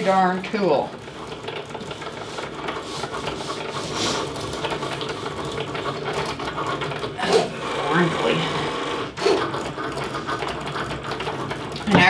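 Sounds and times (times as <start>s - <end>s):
cutting machine motors whirring: 0.0s - 12.0s.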